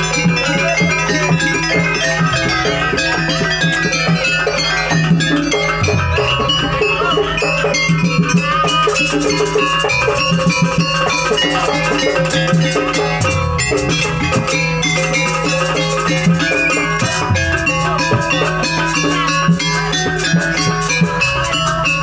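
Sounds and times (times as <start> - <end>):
drums: 0.0 - 22.0
gongs or metallophones: 0.0 - 22.0
pitch-bending melody: 0.0 - 22.0.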